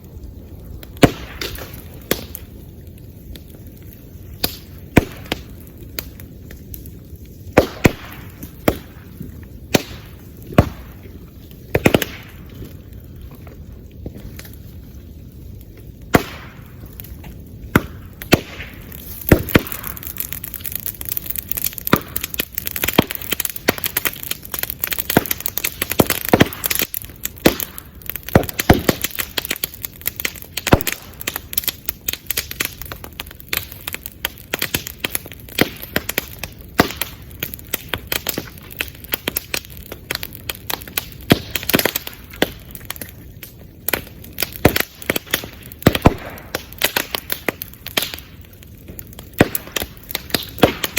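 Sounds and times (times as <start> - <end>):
bonfire crackling and popping: 0.0 - 50.9.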